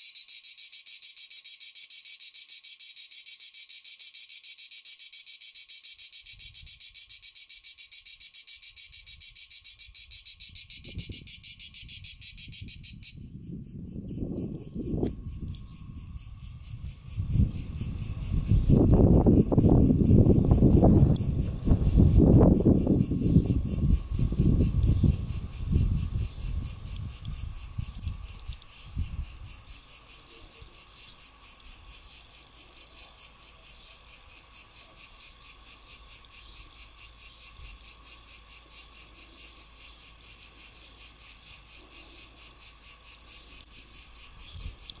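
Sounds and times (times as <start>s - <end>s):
cicada singing: 0.0s - 45.0s.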